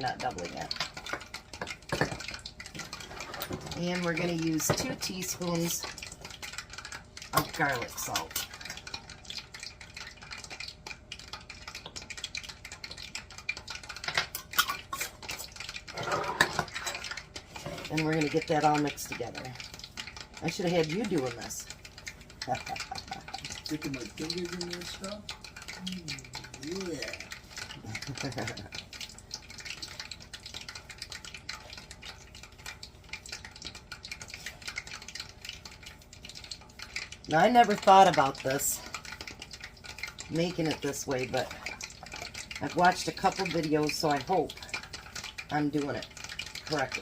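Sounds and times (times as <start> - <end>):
hot oil crackling and popping: 0.0 - 47.0.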